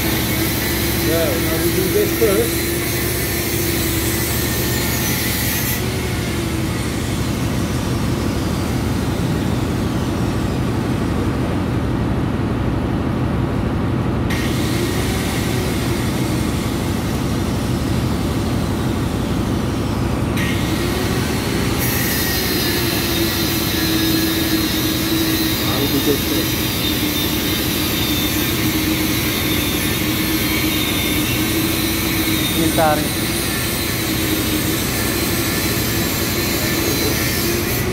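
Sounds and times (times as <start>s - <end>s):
engine-room machinery drone: 0.0s - 37.9s.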